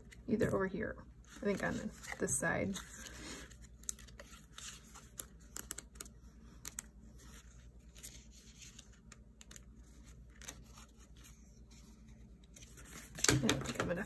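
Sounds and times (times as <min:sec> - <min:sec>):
paper pages rustling: 0:01.2 - 0:14.0.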